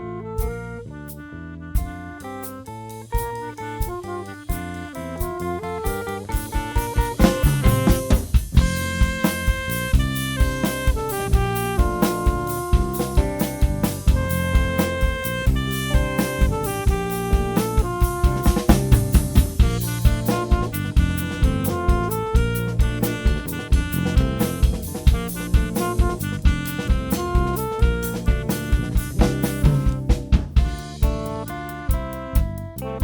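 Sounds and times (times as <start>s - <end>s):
drum kit beat: 0.0s - 1.2s, 1.8s - 33.0s
bass guitar: 0.0s - 33.0s
saxophone melody: 0.0s - 33.0s
guitar: 1.8s - 33.0s.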